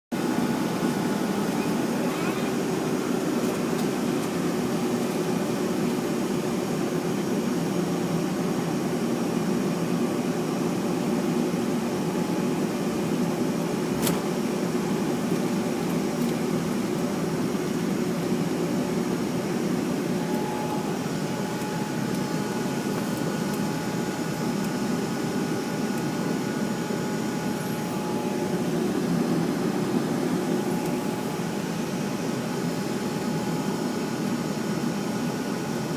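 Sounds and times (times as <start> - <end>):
jet cabin engine hum: 0.2 - 35.9.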